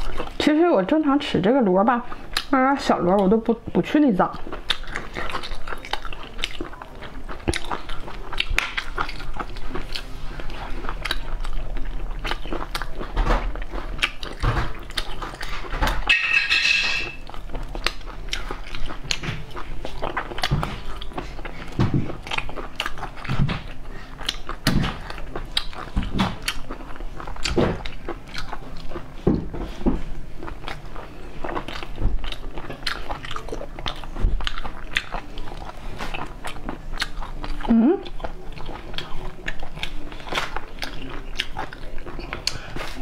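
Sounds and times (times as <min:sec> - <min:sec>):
chewing and lip smacks: 0:02.2 - 0:02.5, 0:04.4 - 0:16.0, 0:17.2 - 0:29.2, 0:30.4 - 0:43.0.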